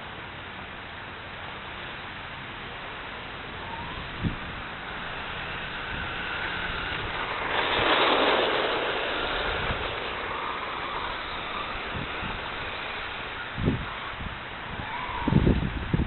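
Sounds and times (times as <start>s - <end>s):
steady hiss: 0.0s - 16.0s
rushing noise: 2.6s - 16.0s
wavering motor whine: 2.8s - 16.0s.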